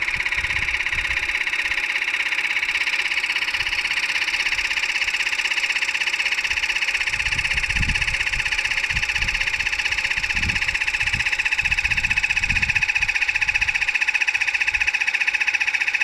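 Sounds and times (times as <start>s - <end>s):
air compressor pulsing buzz: 0.0s - 16.0s.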